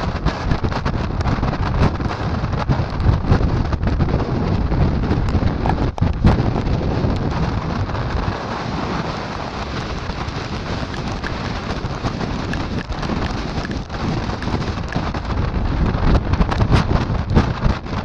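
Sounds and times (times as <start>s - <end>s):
waves churning: 0.0s - 18.0s
wind and rain rushing: 0.0s - 18.0s
wind gusts rumbling on microphone: 0.0s - 18.0s.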